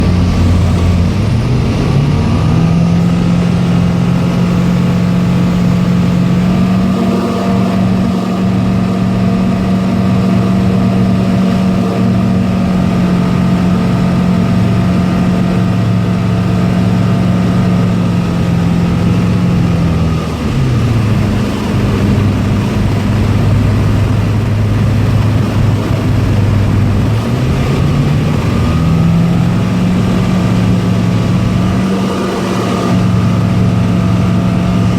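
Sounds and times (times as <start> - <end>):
light aircraft engine and propeller: 0.0 - 34.9.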